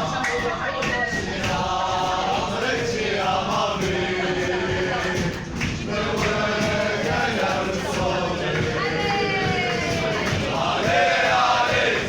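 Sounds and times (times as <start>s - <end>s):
crowd chanting in unison: 0.0s - 12.0s.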